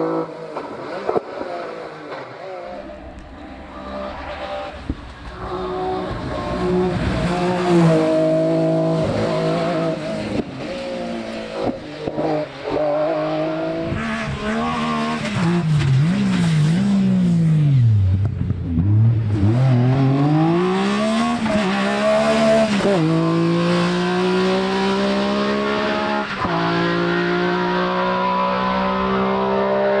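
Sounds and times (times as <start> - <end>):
rally car engine revving hard: 0.0 - 30.0.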